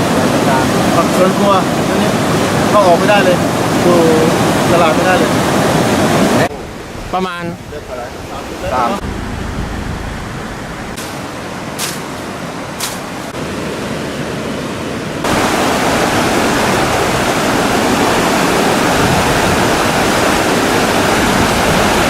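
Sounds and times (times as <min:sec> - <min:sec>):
flood water rushing: 0:00.0 - 0:22.0.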